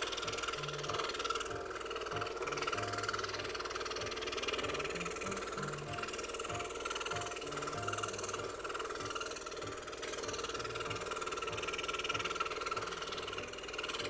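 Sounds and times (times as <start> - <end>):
background music: 0.0 - 14.0
scroll saw cutting wood: 0.0 - 14.0.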